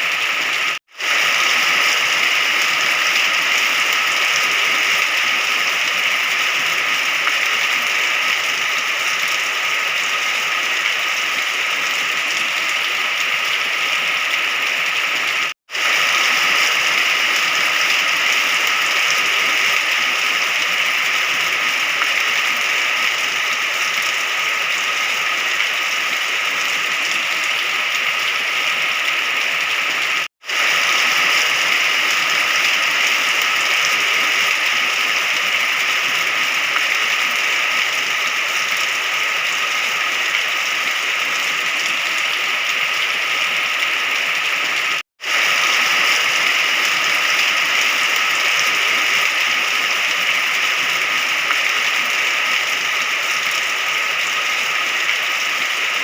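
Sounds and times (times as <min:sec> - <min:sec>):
dense rainfall hiss: 0:00.0 - 0:56.0.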